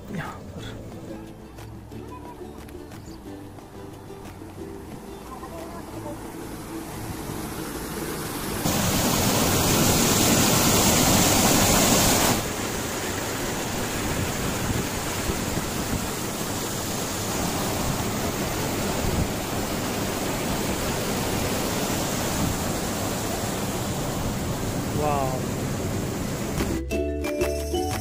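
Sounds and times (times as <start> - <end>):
water rushing over a weir: 3.6 - 26.8.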